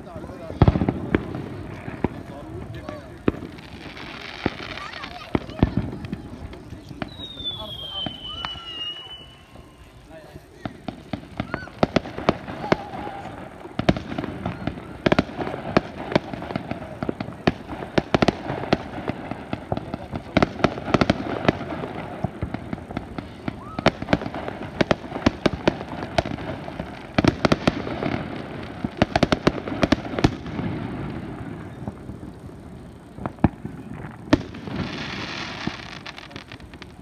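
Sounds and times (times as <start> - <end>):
fireworks bangs and crackles: 0.0 - 37.0.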